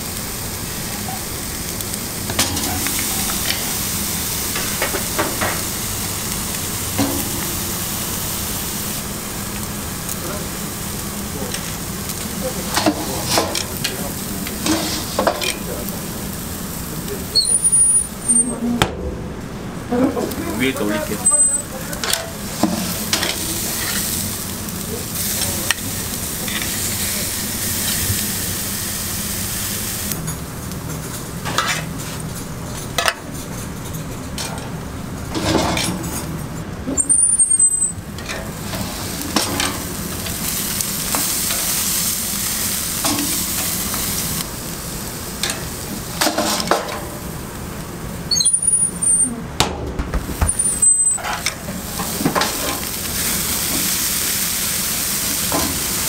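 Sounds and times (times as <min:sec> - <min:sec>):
steaks sizzling on grill: 0:00.0 - 0:18.6, 0:19.9 - 0:49.3, 0:50.3 - 0:56.0.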